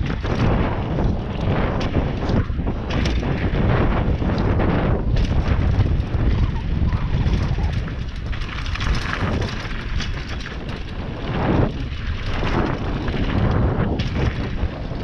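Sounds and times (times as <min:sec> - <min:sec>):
bike rattling over bumps: 0:00.0 - 0:15.0
tyres rumbling on dirt and stones: 0:00.0 - 0:15.0
wind buffeting microphone: 0:00.0 - 0:15.0.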